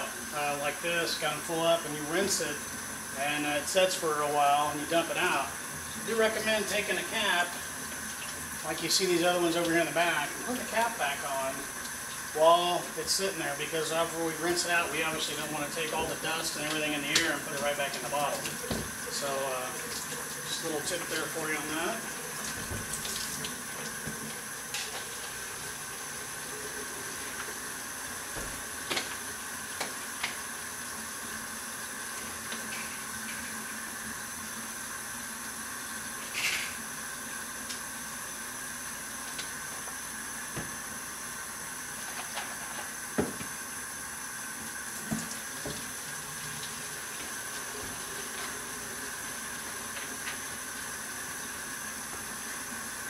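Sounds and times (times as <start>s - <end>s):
tap water running into bottles: 0.0s - 53.0s.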